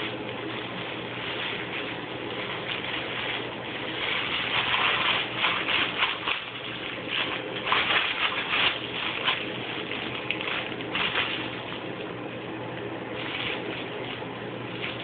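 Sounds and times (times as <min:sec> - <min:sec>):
crinkly rustling of book: 0:00.0 - 0:12.1, 0:13.1 - 0:15.0.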